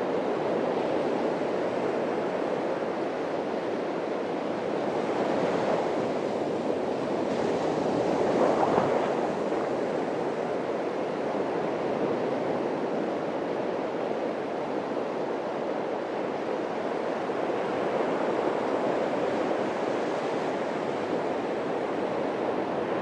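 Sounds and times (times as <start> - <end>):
surf washing on a beach: 0.0 - 23.0.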